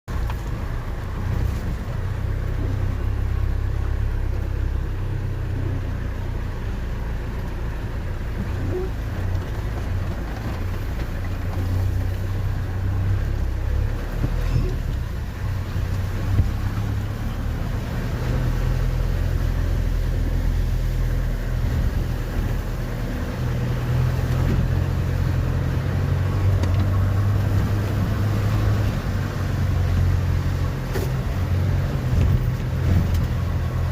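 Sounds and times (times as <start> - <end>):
vehicle engine rumbling: 0.0 - 33.9.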